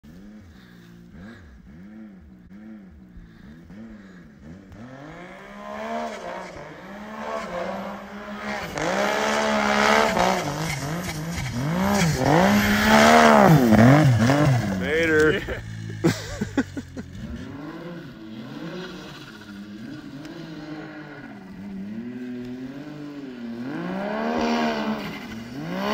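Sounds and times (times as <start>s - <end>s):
snowmobile engine revving: 0.0s - 25.9s.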